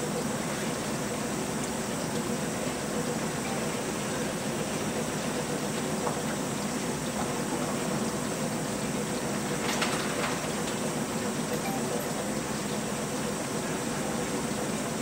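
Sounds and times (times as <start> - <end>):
workshop hum and hiss: 0.0 - 15.0.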